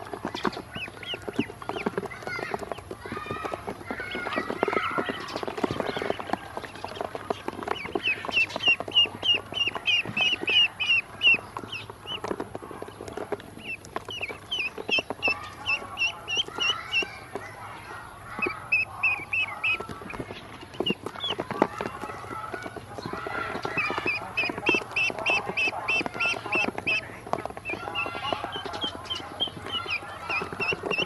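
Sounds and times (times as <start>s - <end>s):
bills pecking plastic basin: 0.0s - 31.0s
ducklings peeping: 0.0s - 31.0s.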